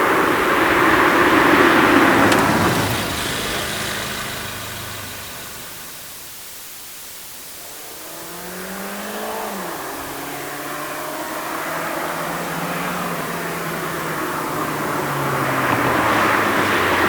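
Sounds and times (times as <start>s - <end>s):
cars driving past: 0.0s - 6.4s, 8.1s - 17.0s.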